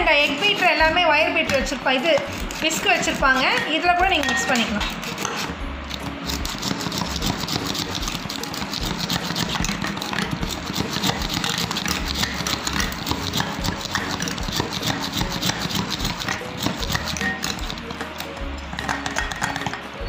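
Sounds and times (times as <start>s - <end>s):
whisk clicking against glass bowl: 1.4s - 5.4s, 6.0s - 19.8s.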